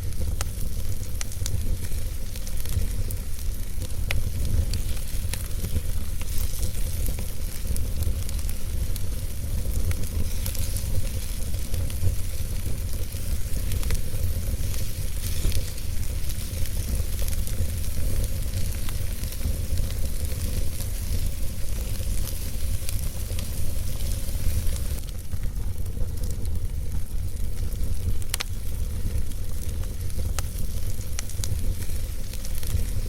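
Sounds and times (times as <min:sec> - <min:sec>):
logs crackling and popping: 0:00.0 - 0:33.0
wood fire burning: 0:00.0 - 0:33.0.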